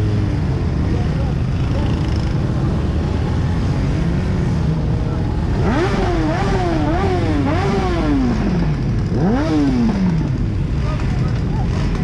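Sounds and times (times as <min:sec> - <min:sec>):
vehicle rumble: 0:00.0 - 0:12.0
engine revving: 0:01.5 - 0:12.0.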